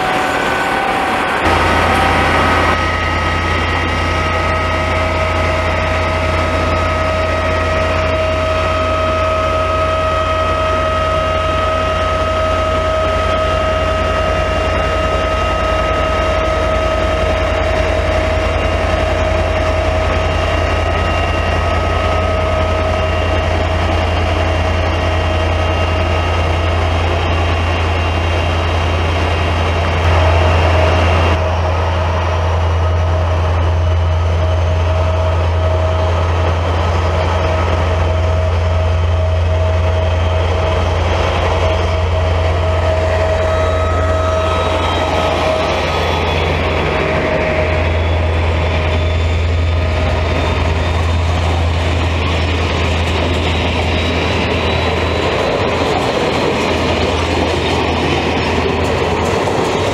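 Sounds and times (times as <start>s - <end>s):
diesel locomotive idling: 0.0s - 59.9s
high whine: 0.0s - 59.9s.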